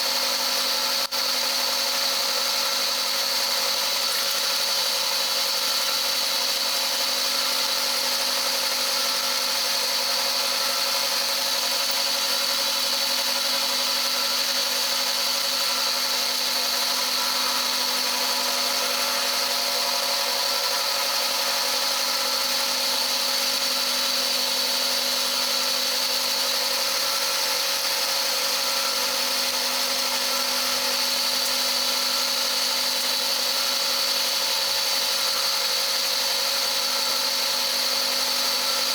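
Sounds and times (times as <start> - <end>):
milling machine whine: 0.0 - 38.9.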